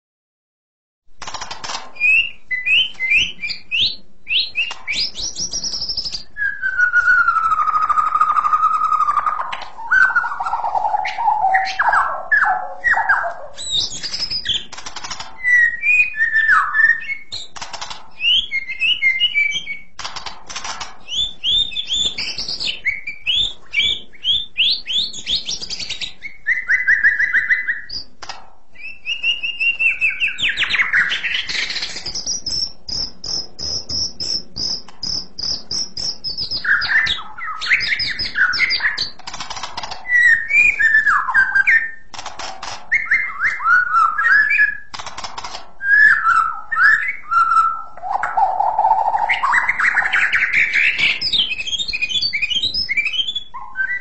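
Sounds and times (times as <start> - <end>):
bird singing whistled song: 2.0 - 14.7, 15.4 - 20.0, 21.0 - 28.1, 28.8 - 39.2, 40.0 - 42.1, 42.9 - 44.9, 45.8 - 54.0.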